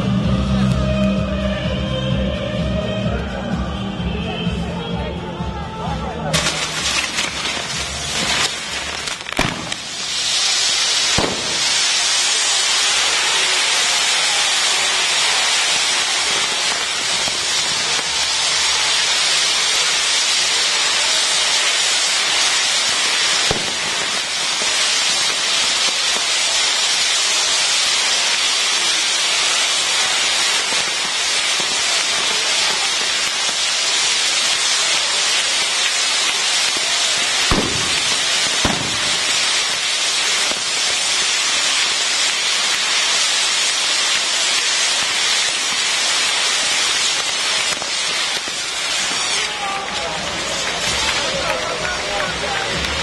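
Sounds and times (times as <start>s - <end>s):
firework fountains hissing: 0.0s - 53.0s
firework cracks: 6.3s - 53.0s.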